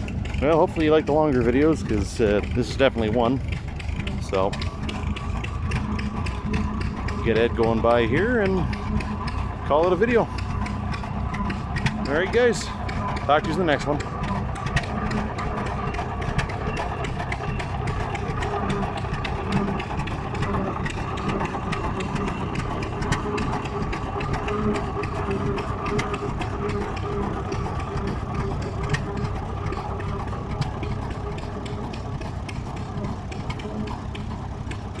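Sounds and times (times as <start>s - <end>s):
tractor engine pulsing: 0.0s - 35.0s.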